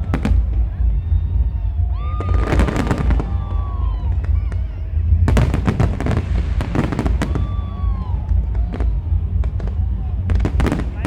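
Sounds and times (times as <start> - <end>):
fireworks crackling and banging: 0.0 - 11.0
low rumble: 0.0 - 11.0
whistling firework shells: 0.0 - 11.0.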